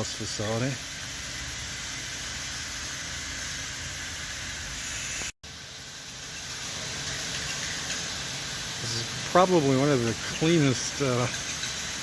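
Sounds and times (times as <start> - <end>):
steady indoor hiss: 0.0 - 12.0.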